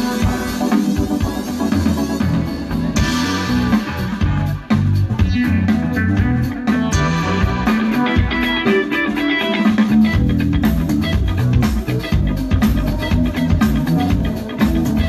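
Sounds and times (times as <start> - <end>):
bass line: 0.0 - 15.0
guitar: 0.0 - 15.0
live band playing house music: 0.0 - 15.0
steady beat: 0.0 - 15.0.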